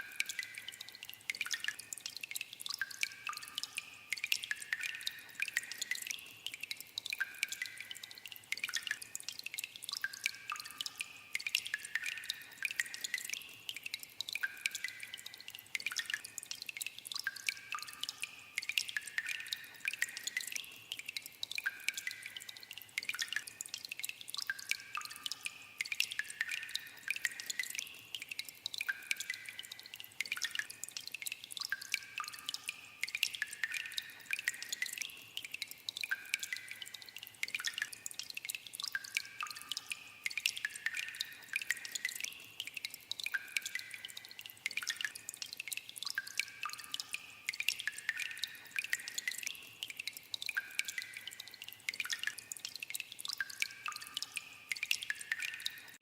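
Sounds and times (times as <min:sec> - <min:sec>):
water dripping with ringing plinks: 0:00.0 - 0:56.0.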